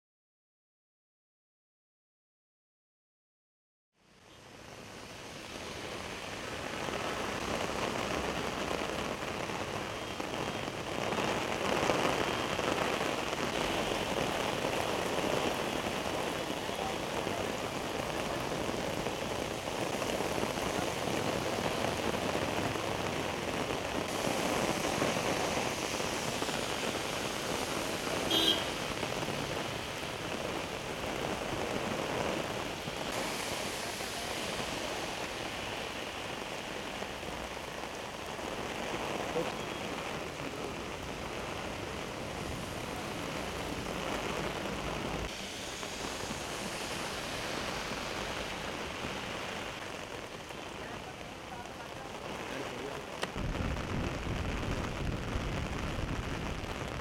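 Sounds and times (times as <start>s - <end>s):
heavy rain on wet road: 4.0s - 57.0s.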